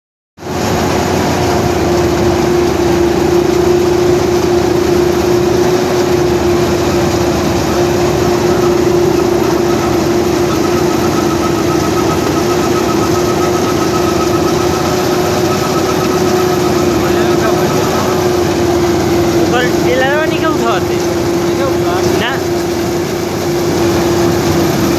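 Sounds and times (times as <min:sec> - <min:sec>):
combine harvester running: 0:00.4 - 0:24.9.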